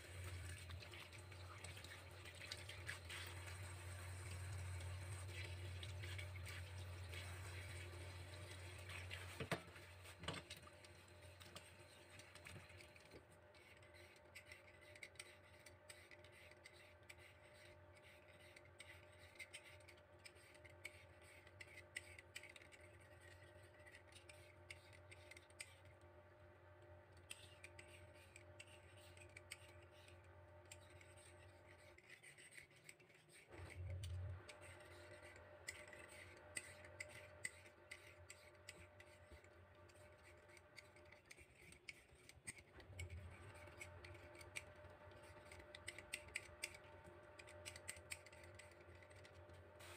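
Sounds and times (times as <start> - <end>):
vegetable peeler scraping: 0.0 - 25.9, 27.2 - 49.9.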